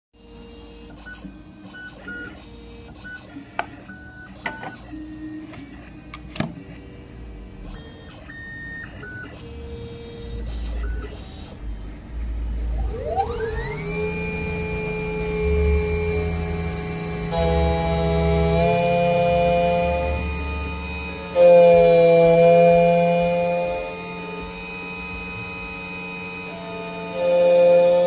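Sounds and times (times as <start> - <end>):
machine motor whines: 0.2 - 28.0.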